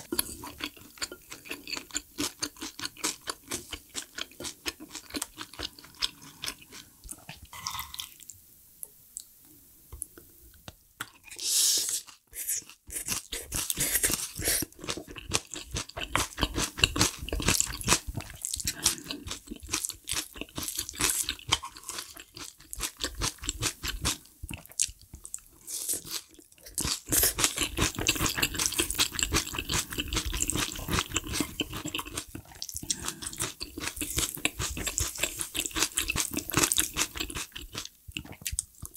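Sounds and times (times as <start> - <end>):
person chewing and crunching food: 0.0 - 8.3, 11.0 - 38.9.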